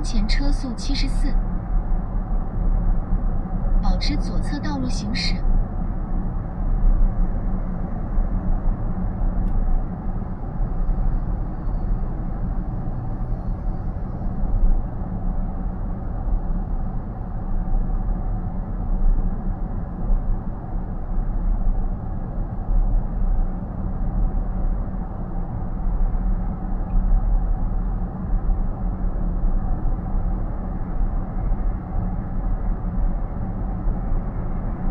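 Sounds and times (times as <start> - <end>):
road and tyre rumble: 0.0 - 34.9.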